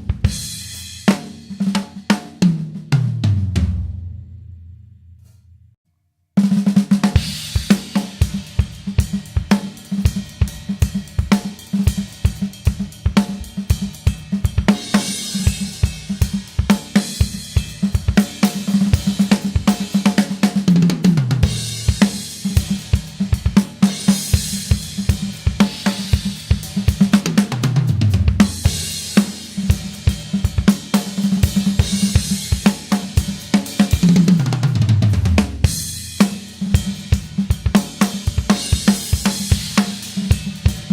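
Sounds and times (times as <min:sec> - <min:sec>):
drum kit fast groove: 0:00.0 - 0:04.0, 0:06.4 - 0:40.9
tom fill: 0:06.8 - 0:40.9.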